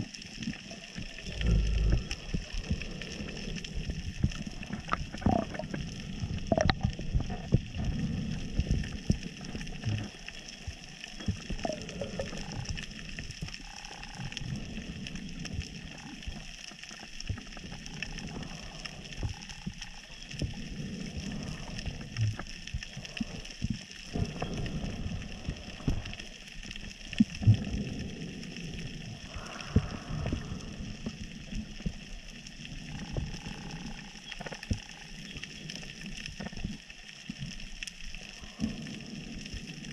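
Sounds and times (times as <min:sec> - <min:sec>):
low underwater rumble: 0:00.0 - 0:39.9
underwater crackling clicks: 0:00.0 - 0:39.9.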